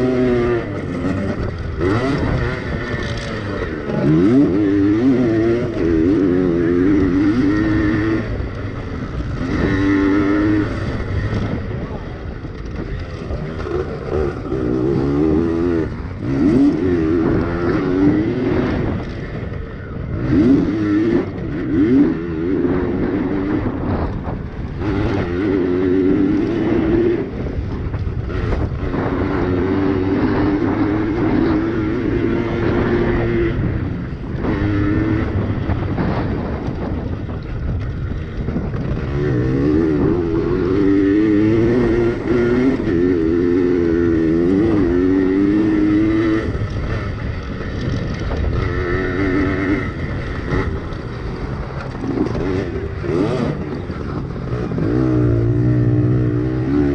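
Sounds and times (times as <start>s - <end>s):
two-stroke pit bike engine revving: 0.0s - 56.9s.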